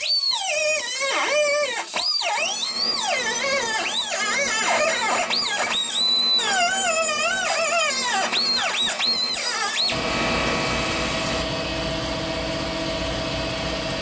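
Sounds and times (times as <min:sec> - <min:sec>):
angle grinder cutting steel: 0:00.0 - 0:11.4.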